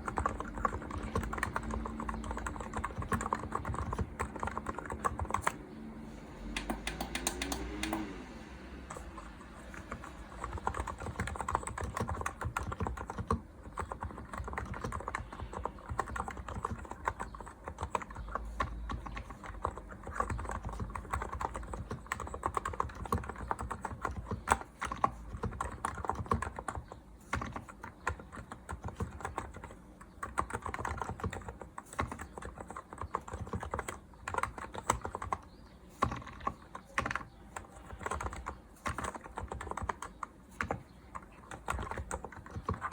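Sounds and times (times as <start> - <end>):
mechanical keyboard typing: 0.0 - 5.8, 6.4 - 42.9.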